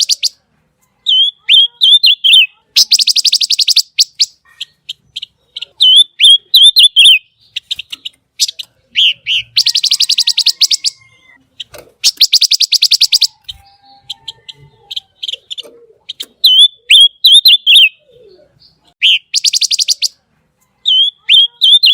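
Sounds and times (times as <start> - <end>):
songbird trilling: 0.0 - 0.4, 1.0 - 11.4, 12.0 - 20.2, 20.8 - 21.9.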